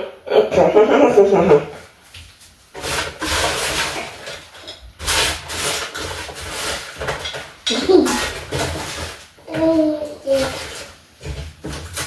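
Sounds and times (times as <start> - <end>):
rubbing scraping noises: 2.3 - 12.0.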